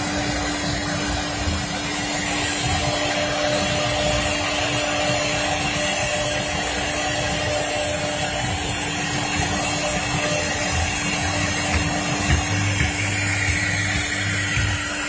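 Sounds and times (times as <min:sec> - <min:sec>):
cnc router spindles humming: 0:00.0 - 0:15.0
router bits cutting wood: 0:00.0 - 0:15.0.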